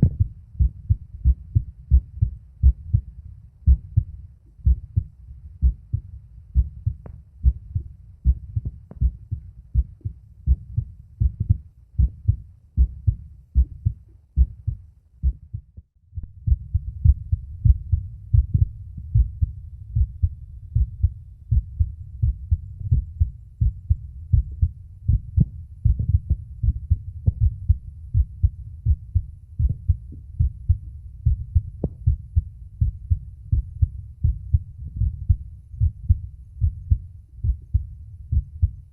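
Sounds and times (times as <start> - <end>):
background rumble: 0.0 - 38.9
heartbeat thumps: 0.0 - 38.9.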